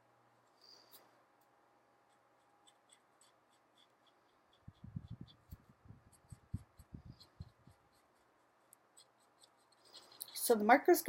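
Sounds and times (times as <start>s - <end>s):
marker strokes on paper: 2.0s - 11.0s.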